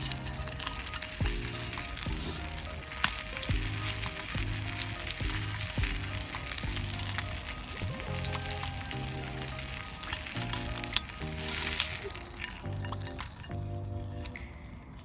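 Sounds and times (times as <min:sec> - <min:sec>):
food sizzling in a pan: 0:00.0 - 0:13.8
background music with bass beat: 0:00.0 - 0:15.0
sharp popping of frying food: 0:00.0 - 0:15.0.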